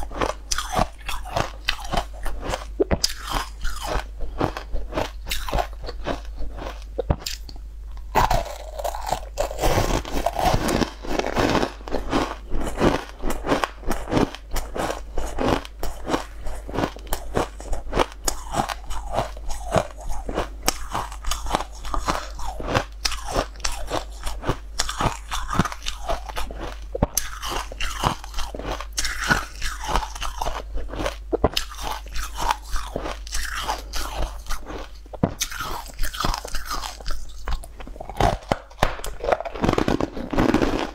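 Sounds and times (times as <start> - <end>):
crunching ice balls: 0.0 - 7.4, 8.1 - 40.9.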